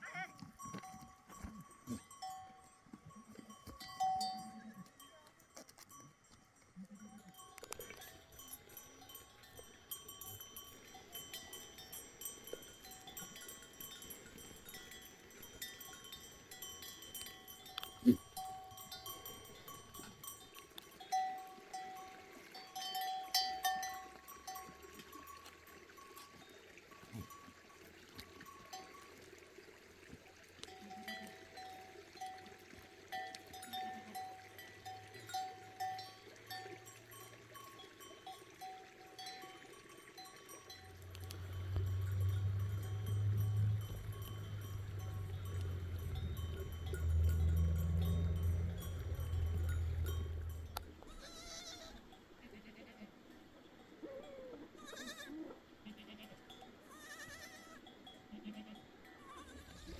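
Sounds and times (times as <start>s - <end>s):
livestock bells clanking: 0.0s - 29.2s, 30.6s - 51.6s, 56.5s - 59.9s.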